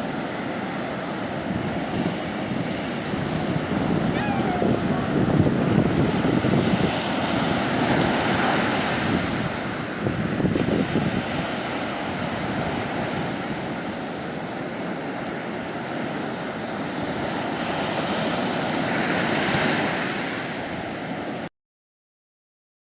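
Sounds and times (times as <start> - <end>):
sea waves washing on beach: 0.0 - 21.5.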